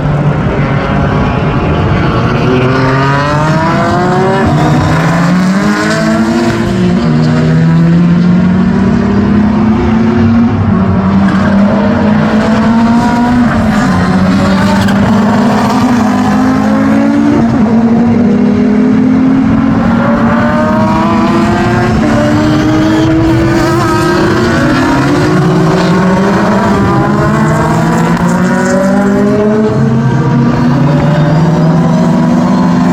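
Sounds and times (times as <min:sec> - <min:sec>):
racing car engines shifting gears: 0:00.0 - 0:32.9.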